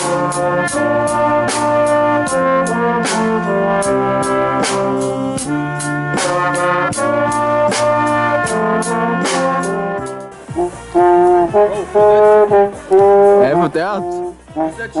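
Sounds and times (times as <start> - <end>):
brass band chords: 0.0 - 15.0
steady drumbeat: 0.0 - 15.0.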